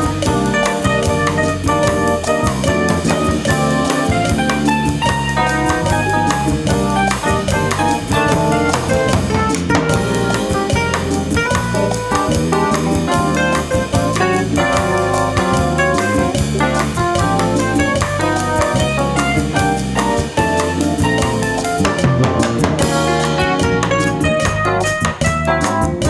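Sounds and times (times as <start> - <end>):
drum kit playing jazz groove: 0.0 - 26.0.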